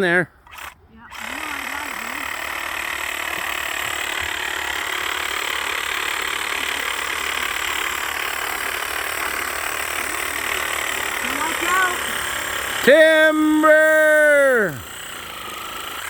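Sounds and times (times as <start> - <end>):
power saw cutting tree trunk: 0.0 - 16.0.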